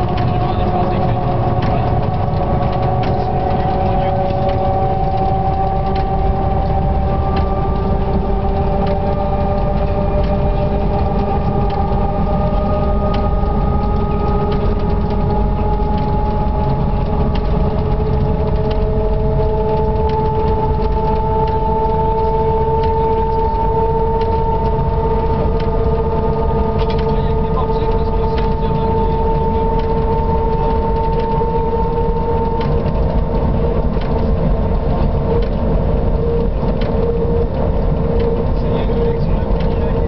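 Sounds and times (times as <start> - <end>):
locomotive running rumble: 0.0 - 40.0
traction motor whine: 0.0 - 40.0.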